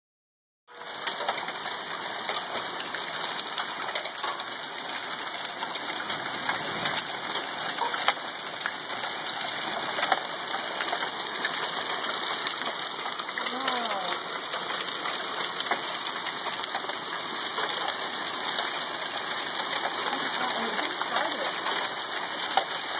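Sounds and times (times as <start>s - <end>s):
hailstones clicking on pavement: 0.7s - 22.9s
rain hissing: 0.7s - 22.9s.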